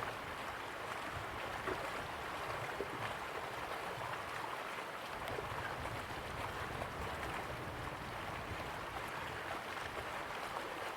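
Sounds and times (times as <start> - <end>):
river water gurgling: 0.0 - 10.9.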